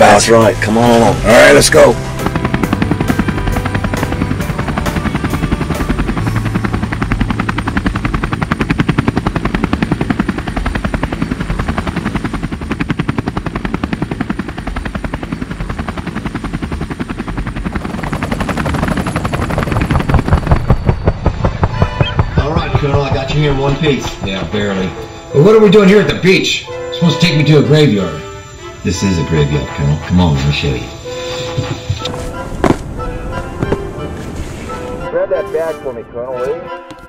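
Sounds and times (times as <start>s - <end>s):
helicopter rotor chop: 0.0s - 35.0s
helicopter engine hum: 0.0s - 36.0s.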